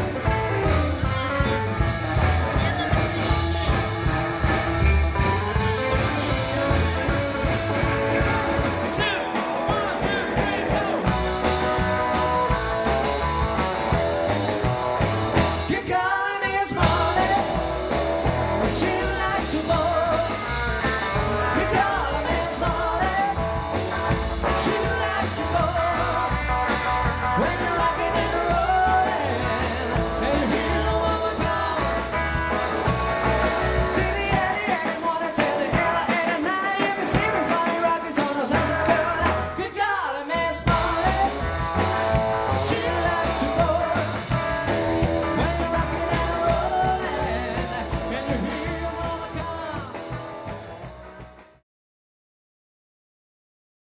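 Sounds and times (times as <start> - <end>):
upright double bass: 0.0 - 15.8, 16.8 - 34.6, 38.5 - 39.7, 40.4 - 51.6
drum kit: 0.0 - 51.6
electric guitar: 0.0 - 51.6
man singing: 2.4 - 14.0, 15.4 - 50.6.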